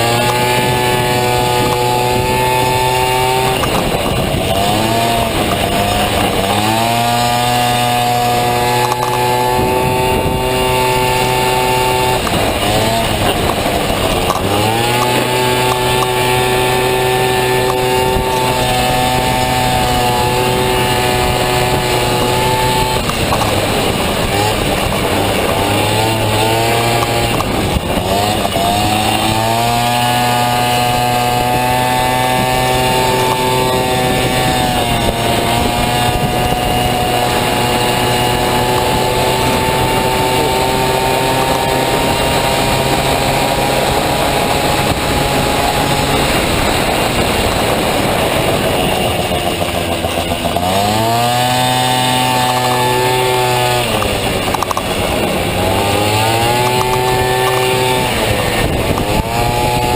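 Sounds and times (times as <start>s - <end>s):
scooter engine revving high: 0.0s - 59.9s.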